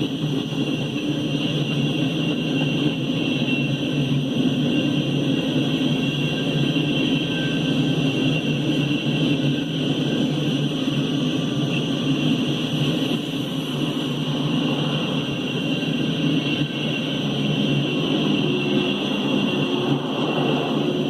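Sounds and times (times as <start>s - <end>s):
high whine: 0.0s - 21.0s
locomotive engine hum: 0.0s - 21.0s.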